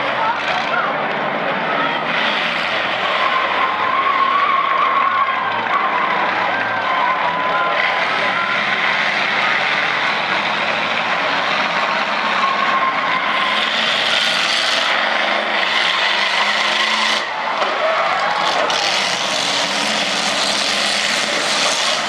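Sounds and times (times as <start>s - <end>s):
car engines revving: 0.0s - 22.0s
cars ramming each other: 0.0s - 22.0s
tires squealing and skidding: 0.0s - 22.0s.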